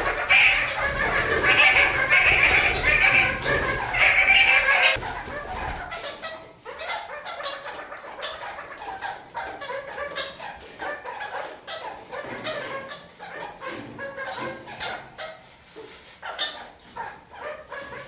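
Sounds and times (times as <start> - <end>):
parakeets chattering: 0.0 - 18.0.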